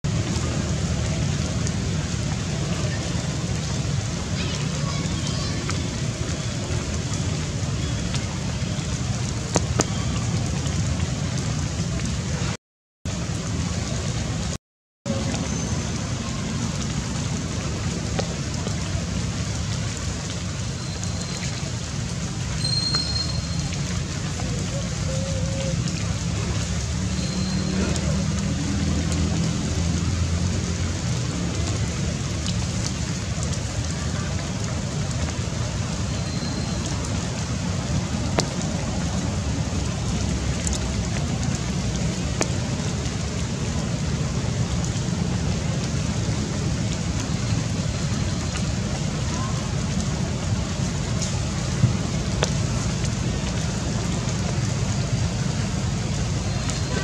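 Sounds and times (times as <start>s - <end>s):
rain falling on foliage: 0.0s - 57.0s
outdoor background noise: 0.1s - 57.0s.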